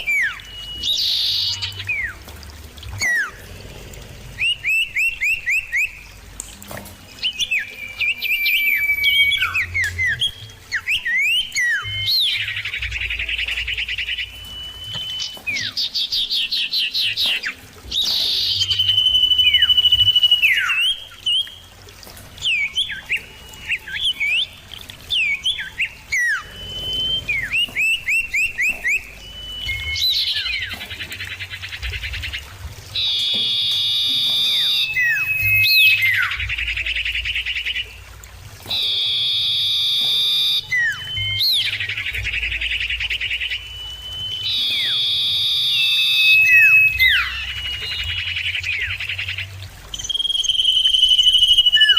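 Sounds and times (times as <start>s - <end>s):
bird whistles and trills: 0.0s - 3.4s, 4.4s - 51.9s.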